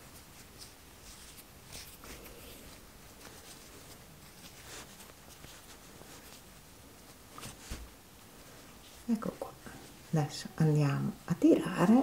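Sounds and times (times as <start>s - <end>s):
yarn and needle rustling: 0.0s - 12.0s.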